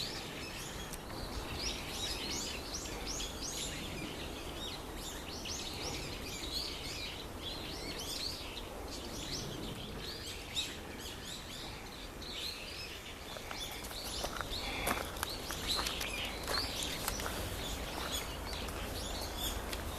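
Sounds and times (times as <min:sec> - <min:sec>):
flock of birds calling: 0:00.0 - 0:19.9.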